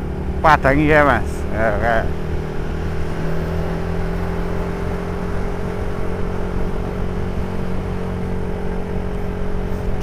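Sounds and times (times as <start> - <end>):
road and wind noise: 0.0 - 10.0
vehicle engine running: 0.0 - 10.0.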